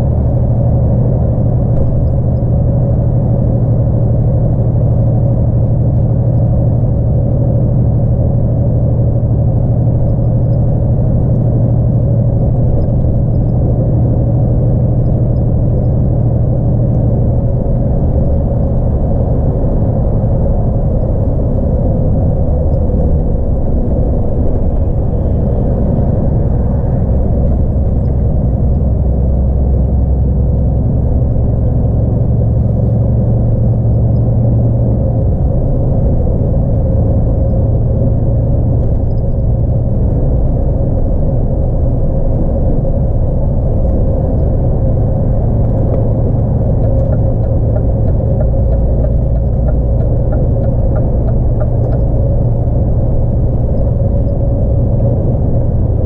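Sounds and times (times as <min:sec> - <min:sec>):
road and tyre noise: 0:00.0 - 0:56.0
truck engine drone: 0:00.0 - 0:56.0.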